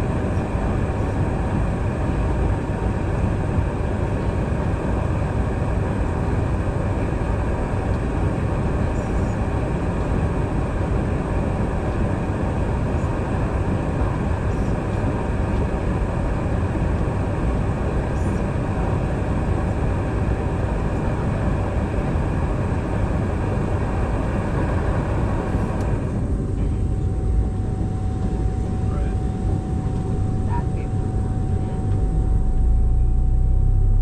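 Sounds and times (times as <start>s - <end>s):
airliner cabin rumble and hiss: 0.0s - 33.3s.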